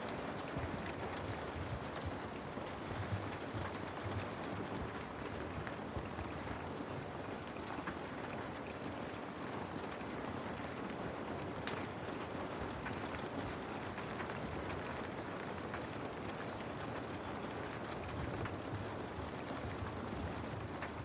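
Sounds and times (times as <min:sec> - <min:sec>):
rain pattering on a window: 0:00.0 - 0:21.0.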